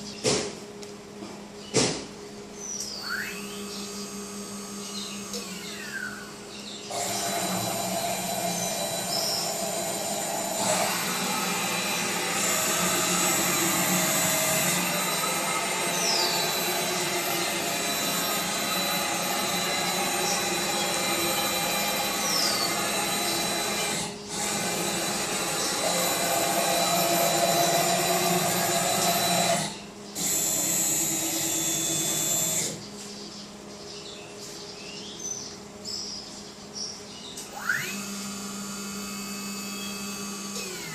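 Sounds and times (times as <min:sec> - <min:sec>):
cnc machine motor running: 0:02.9 - 0:32.8, 0:37.5 - 0:40.9.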